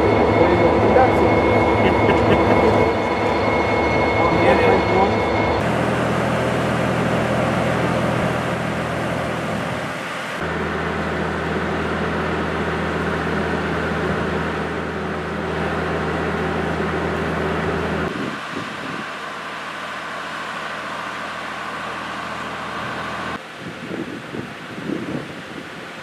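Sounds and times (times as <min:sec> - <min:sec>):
diesel locomotive engine idling: 0:00.0 - 0:23.4.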